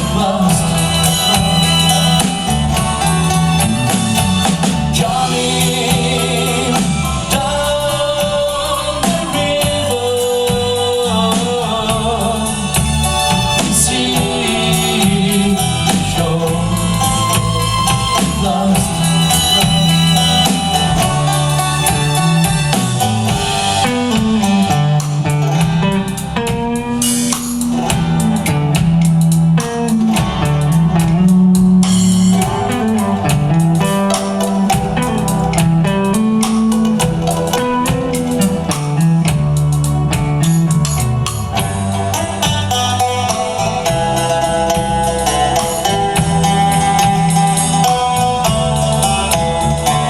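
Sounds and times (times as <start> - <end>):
bass line: 0.0 - 50.0
drum kit: 0.0 - 50.0
guitar: 0.0 - 50.0.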